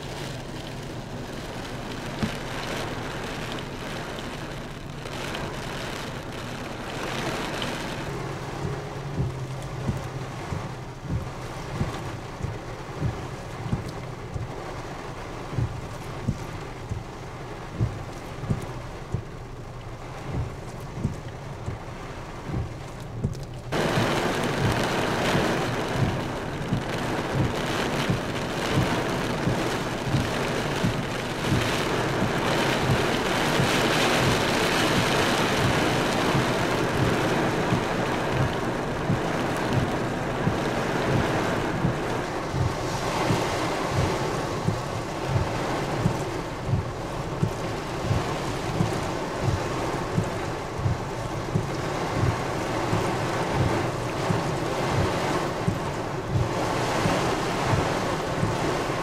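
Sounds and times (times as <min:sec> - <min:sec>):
heavy rain on moving car: 0:00.0 - 0:59.0
low thumps: 0:06.2 - 0:59.0.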